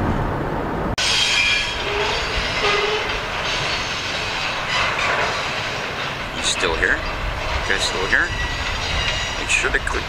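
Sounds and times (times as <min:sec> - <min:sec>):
steel wheels clattering on rail: 0:01.0 - 0:10.0.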